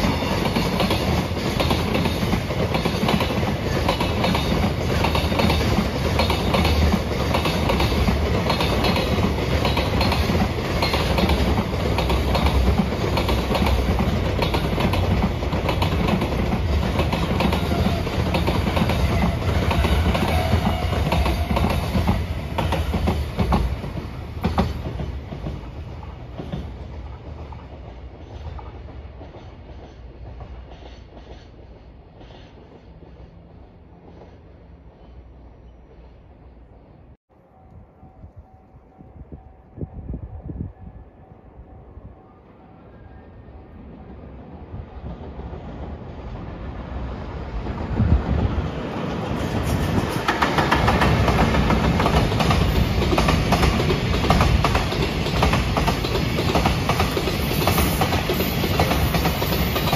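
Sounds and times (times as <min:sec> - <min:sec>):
freight train wheels clacking: 0:00.0 - 0:35.1, 0:45.0 - 0:59.9.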